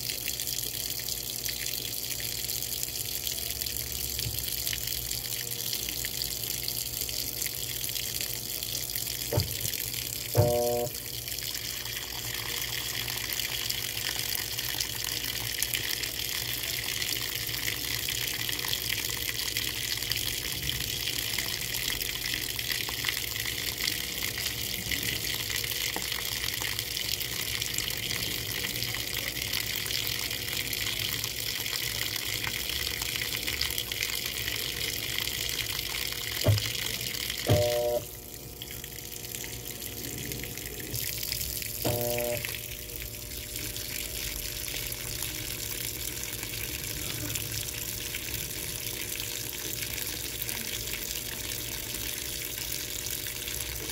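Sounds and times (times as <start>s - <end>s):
water pouring into washing machine: 0.0s - 53.9s.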